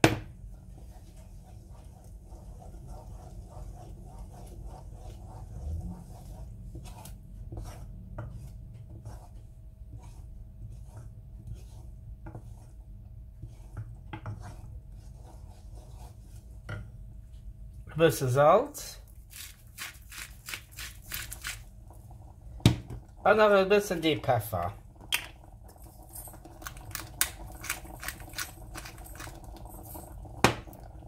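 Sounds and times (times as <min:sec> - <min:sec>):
wooden spoon stirring in a saucepan: 0:00.0 - 0:31.0.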